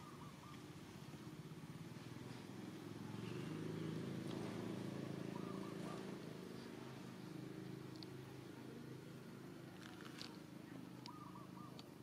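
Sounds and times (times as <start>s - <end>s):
low pulsing engine rumble: 0.0s - 12.0s.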